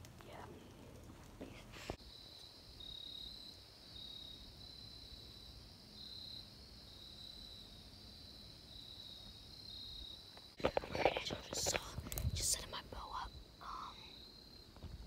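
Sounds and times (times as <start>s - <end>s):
crickets trilling: 2.0s - 15.0s.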